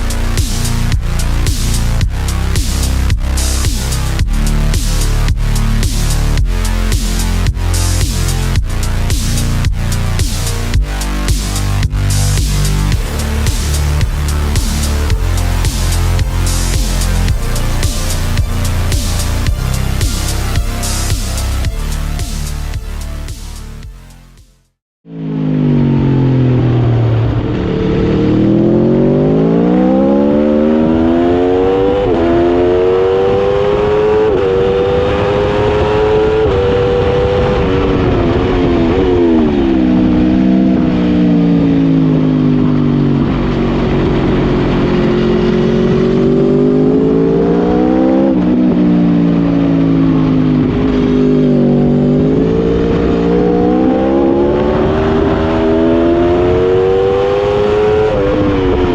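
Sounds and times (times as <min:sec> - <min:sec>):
motorcycle engine racing: 0:00.0 - 0:24.3, 0:25.1 - 0:58.9.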